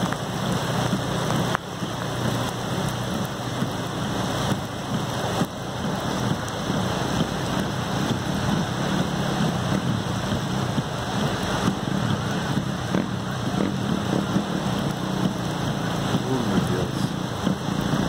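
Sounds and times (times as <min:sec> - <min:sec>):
floodwater rushing: 0:00.0 - 0:18.0
heavy rain: 0:00.0 - 0:18.0.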